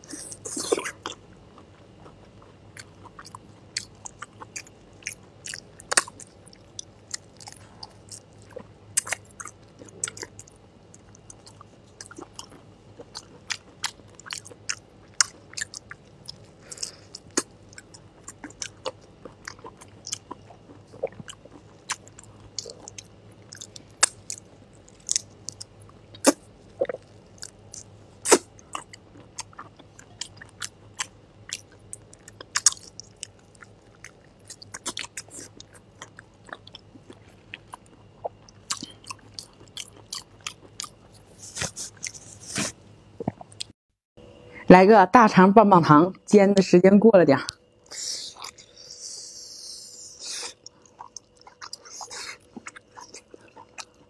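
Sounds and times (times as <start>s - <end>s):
chewing crisp food: 0.0s - 43.7s, 47.5s - 54.0s.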